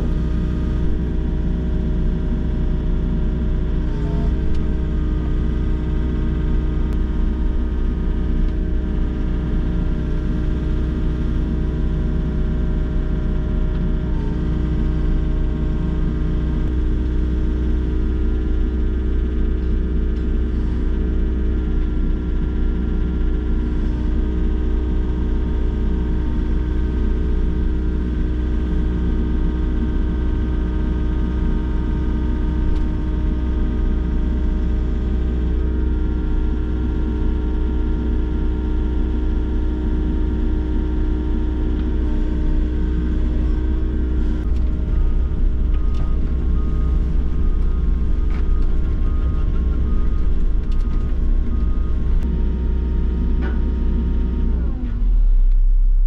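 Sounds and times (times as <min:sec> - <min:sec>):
excavator engine and hydraulics humming: 0:00.0 - 0:56.0.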